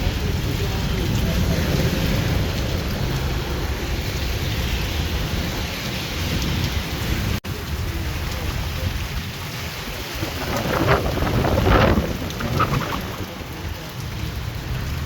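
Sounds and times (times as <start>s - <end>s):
heavy rain pouring: 0.0s - 15.0s
low thunder rumble: 0.0s - 15.0s.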